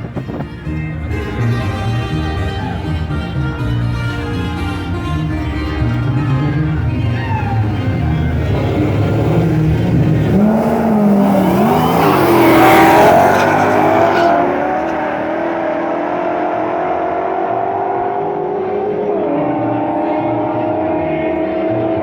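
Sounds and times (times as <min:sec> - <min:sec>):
drag racing cars accelerating: 0:00.0 - 0:22.0.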